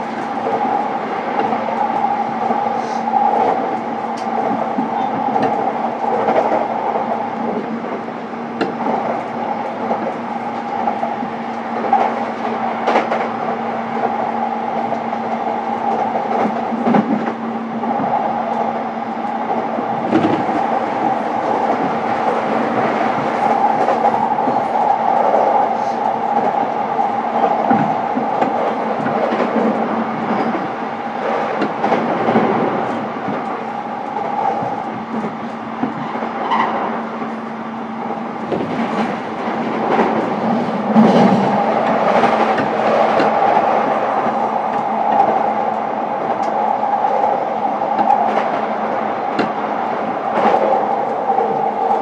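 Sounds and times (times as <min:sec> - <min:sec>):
train rolling rumble and hum: 0:00.0 - 0:52.0.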